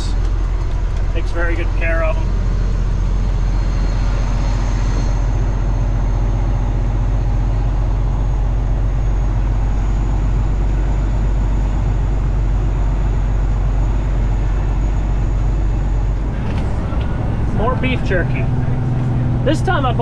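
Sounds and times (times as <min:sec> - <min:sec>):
road noise inside cab: 0:00.0 - 0:20.0
truck diesel engine drone: 0:00.0 - 0:20.0.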